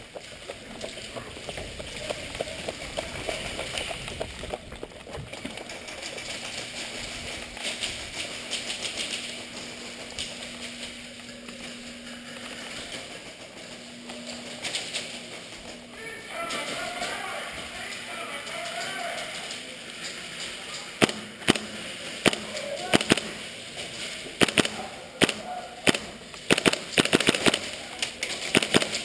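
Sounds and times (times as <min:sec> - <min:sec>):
footfalls and rustling: 0:00.0 - 0:24.9.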